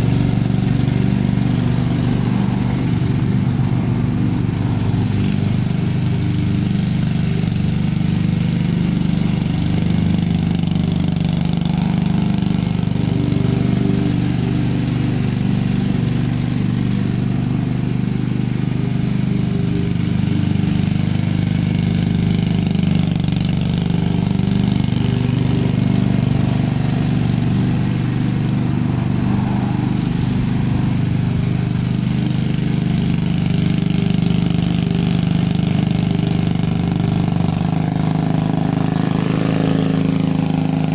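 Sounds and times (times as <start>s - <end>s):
riding lawn mower engine running: 0.0s - 40.9s.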